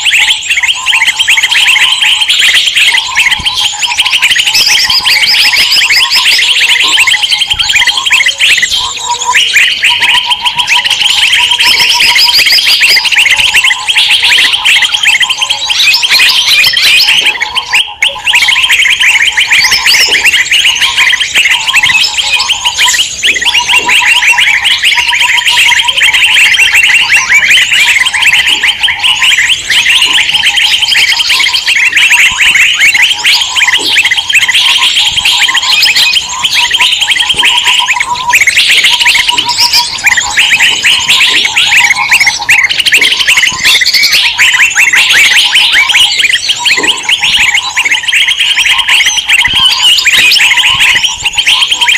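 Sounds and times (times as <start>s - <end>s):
songbirds chirping and chattering: 0.0s - 51.9s.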